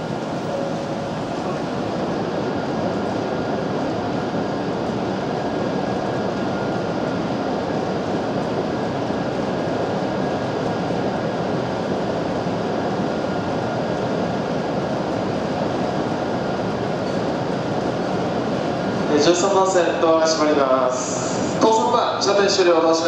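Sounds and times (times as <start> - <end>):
train equipment humming: 0.0 - 21.9.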